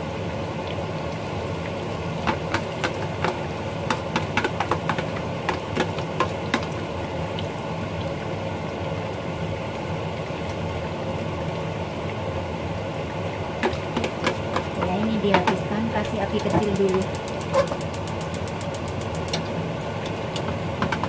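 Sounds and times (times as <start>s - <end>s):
batter deep-frying in hot oil: 0.0s - 21.0s.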